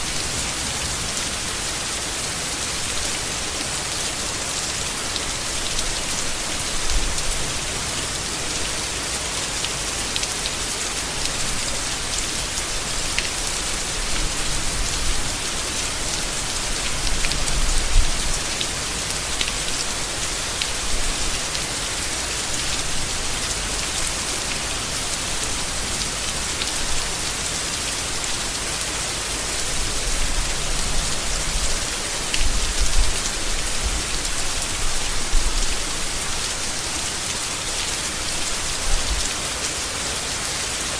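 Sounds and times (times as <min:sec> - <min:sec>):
steady rain on leaves: 0:00.0 - 0:40.9.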